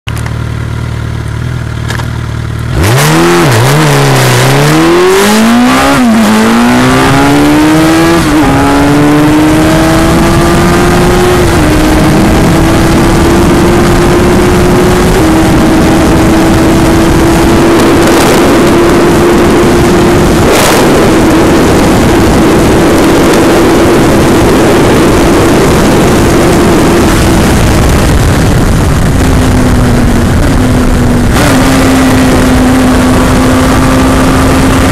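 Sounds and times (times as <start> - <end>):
motorcycle engine revving: 0.1 - 34.9
wind rush: 2.7 - 34.9.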